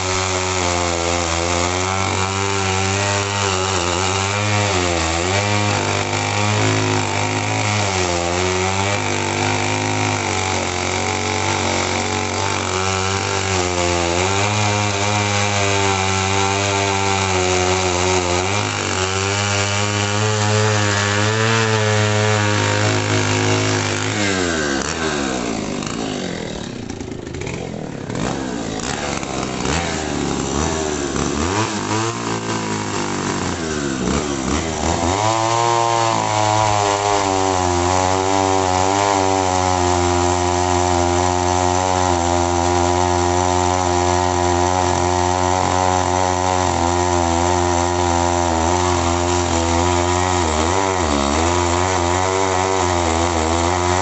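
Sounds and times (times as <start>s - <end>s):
chainsaw engine revving: 0.0s - 54.0s.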